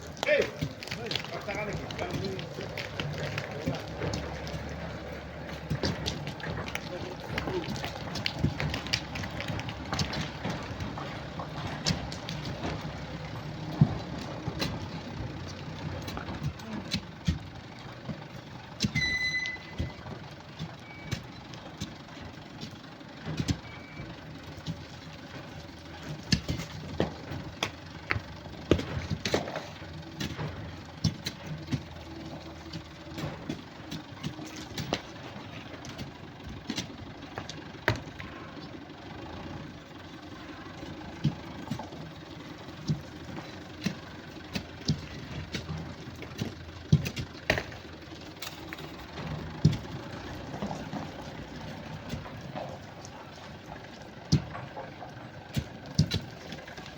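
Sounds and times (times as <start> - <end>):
stones falling: 0.0 - 56.9.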